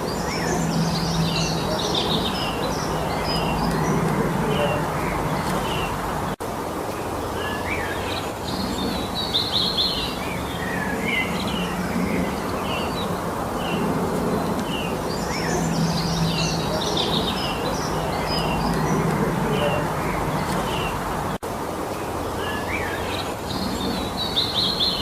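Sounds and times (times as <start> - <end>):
rushing background noise: 0.0 - 25.0
songbirds chirping and trilling: 0.0 - 25.0.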